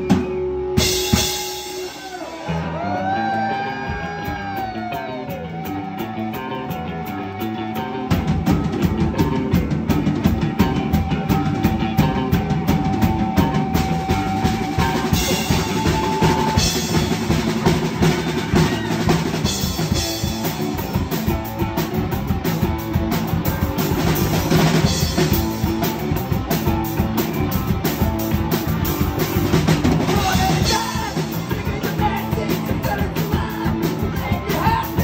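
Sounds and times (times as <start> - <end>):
rock band playing: 0.0 - 35.0.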